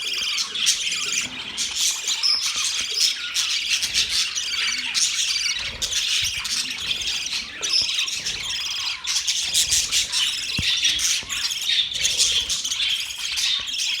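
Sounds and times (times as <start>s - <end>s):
budgerigars chattering: 0.0s - 14.0s.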